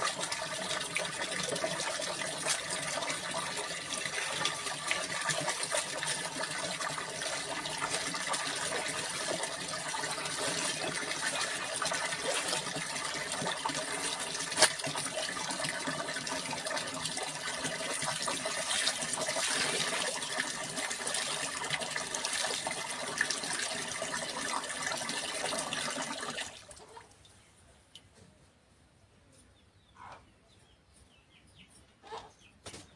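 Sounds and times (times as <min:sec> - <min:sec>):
water splashing in tub: 0:00.0 - 0:26.8
water pouring and dripping: 0:00.0 - 0:27.2.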